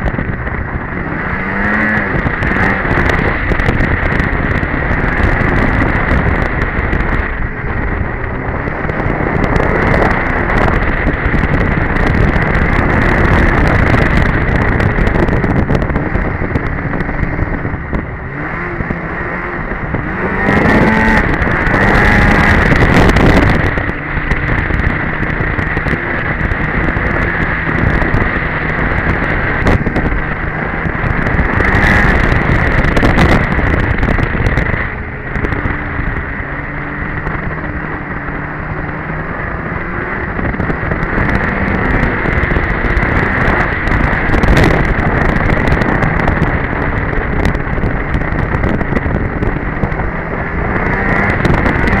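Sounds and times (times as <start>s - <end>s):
snowmobile two-stroke engine: 0.0s - 52.0s
wind noise: 0.0s - 52.0s.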